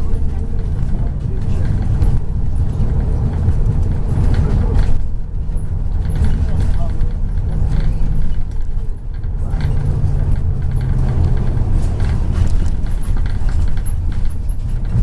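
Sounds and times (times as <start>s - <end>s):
bus engine drone: 0.0s - 15.0s
road rumble: 0.0s - 15.0s
light rattling of fittings: 0.7s - 15.0s.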